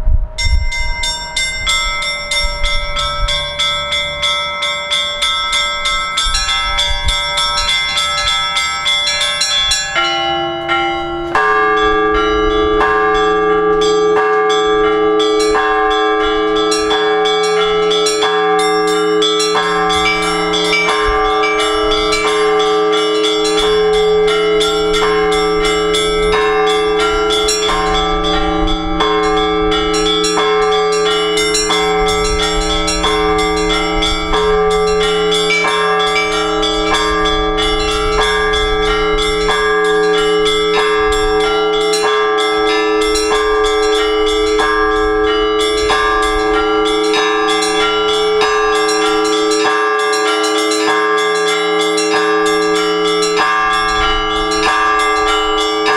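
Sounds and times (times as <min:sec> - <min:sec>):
hum of large bells: 0:00.0 - 0:55.9
small church bells striking: 0:00.0 - 0:55.9.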